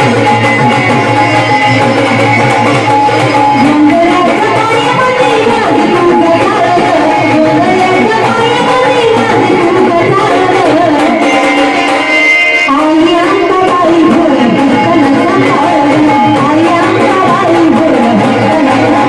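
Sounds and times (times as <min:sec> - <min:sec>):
person singing: 0:00.0 - 0:11.5, 0:12.6 - 0:19.0
tabla rhythm: 0:00.0 - 0:19.0.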